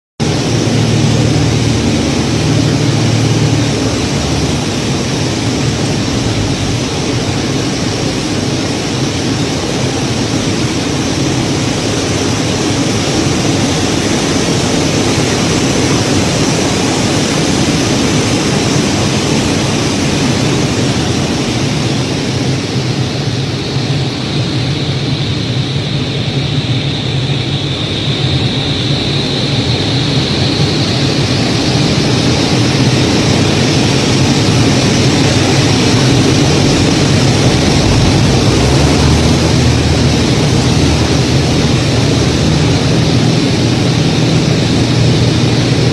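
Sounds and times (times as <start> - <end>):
aircraft engine drone: 0.2 - 45.9
airflow rushing: 0.2 - 45.9
faint high whine: 0.2 - 45.9.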